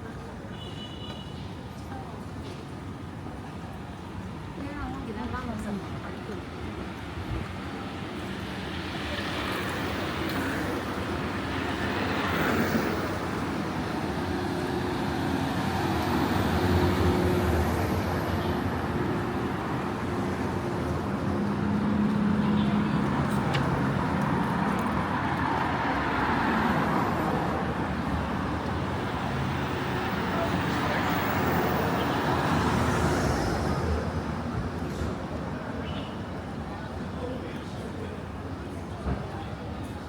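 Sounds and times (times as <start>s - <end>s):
cars passing on street: 0.0s - 40.0s.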